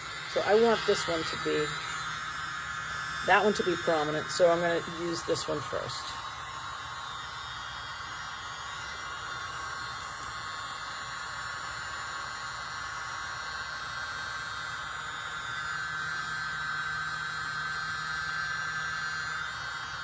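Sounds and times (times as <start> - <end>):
small electric blower whirring: 0.0 - 20.0.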